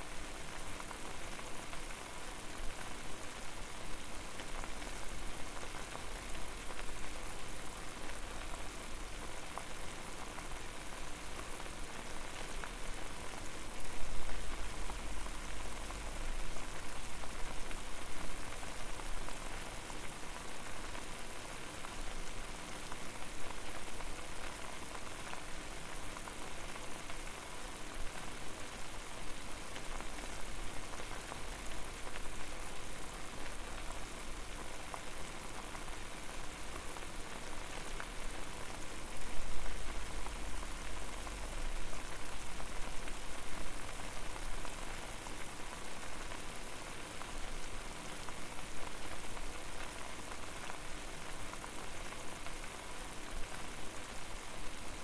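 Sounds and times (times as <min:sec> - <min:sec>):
water boiling and bubbling: 0:00.1 - 0:55.0.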